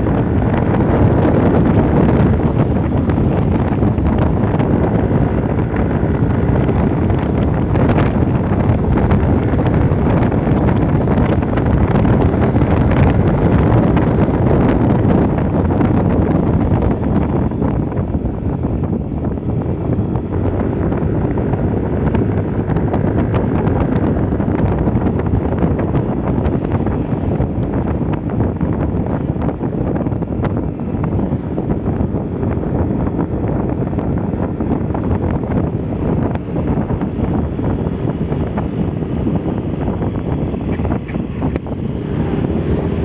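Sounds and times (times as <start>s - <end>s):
scooter engine and belt drive: 0.0s - 43.0s
wind buffeting microphone: 0.0s - 43.0s.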